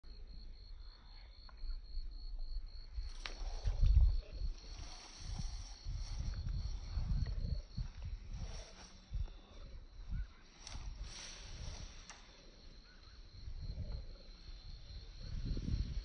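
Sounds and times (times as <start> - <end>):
insect pulsing chirp: 0.1 - 16.0
insect high buzz: 0.2 - 16.0.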